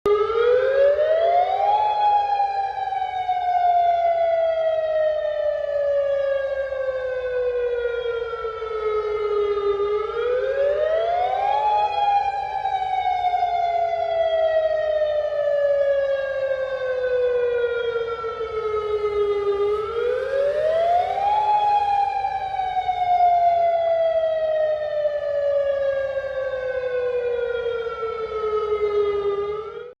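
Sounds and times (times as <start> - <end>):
warning siren wailing: 0.1 - 30.0.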